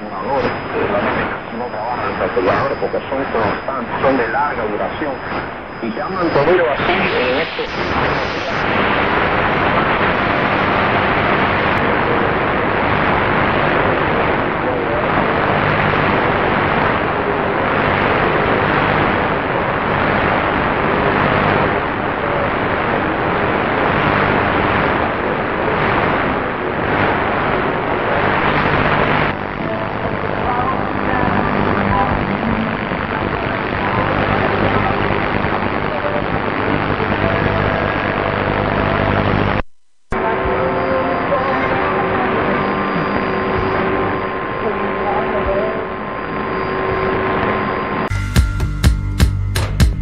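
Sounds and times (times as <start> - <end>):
faint radio speech: 0.0 - 48.1
radio static hiss: 0.0 - 48.1
steady hum: 0.0 - 48.2.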